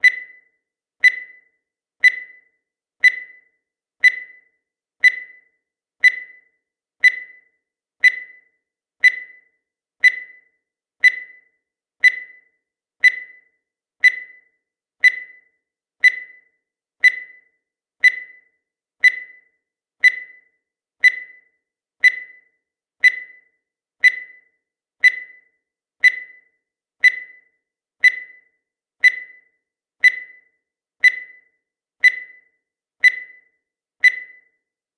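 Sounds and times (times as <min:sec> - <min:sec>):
short electronic beeps: 0:00.0 - 0:34.7.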